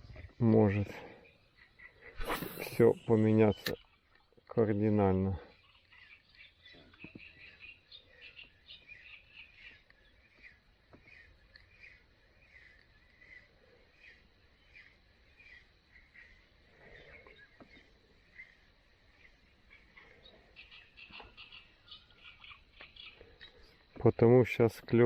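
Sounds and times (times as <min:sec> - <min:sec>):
faint bird chirping: 0:00.0 - 0:25.0.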